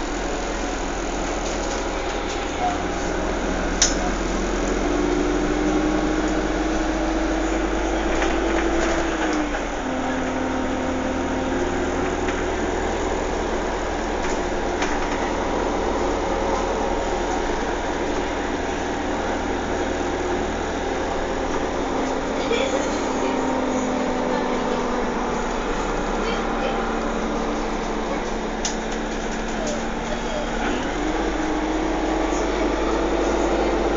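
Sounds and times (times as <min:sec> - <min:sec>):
motor vehicle engine hum: 0:00.0 - 0:33.9.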